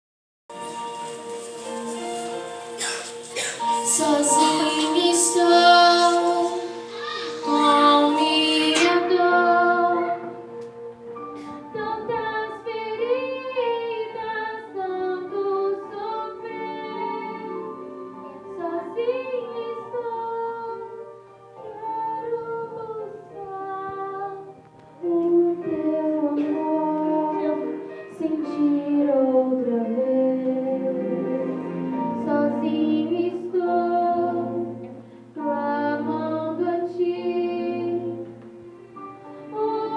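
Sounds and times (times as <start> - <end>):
high voices singing: 0.5 - 10.8, 11.4 - 21.0, 21.7 - 38.6, 39.3 - 39.9
held accompaniment notes: 0.5 - 39.9.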